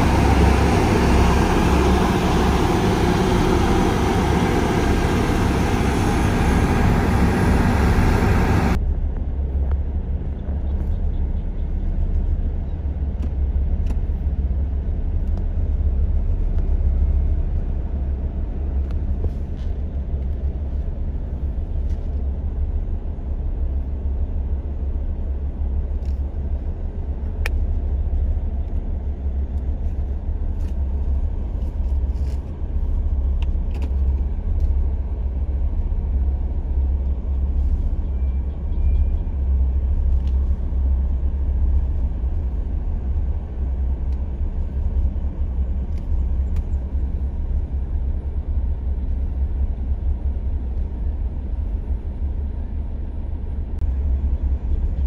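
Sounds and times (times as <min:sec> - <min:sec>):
road rollers rumbling: 0:00.0 - 0:55.0.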